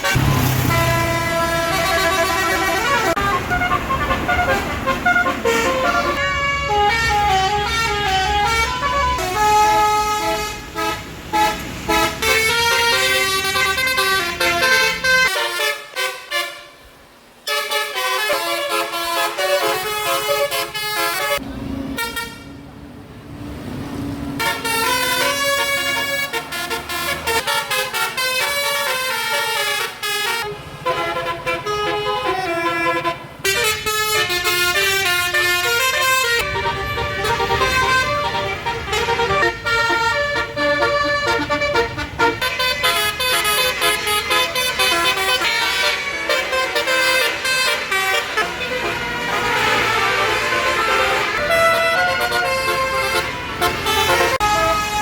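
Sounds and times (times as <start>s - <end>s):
multi-tone horn melody: 0.0s - 22.5s, 24.4s - 55.0s.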